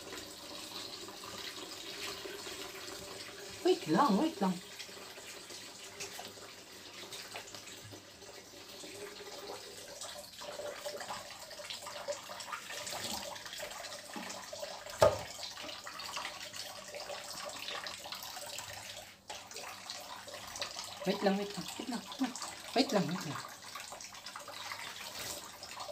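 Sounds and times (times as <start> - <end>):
tap water splashing in a sink: 0.0 - 25.9.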